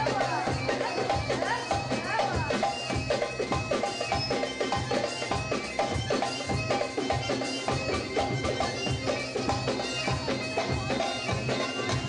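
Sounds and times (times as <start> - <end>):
reedy wind instrument melody: 0.0 - 12.0.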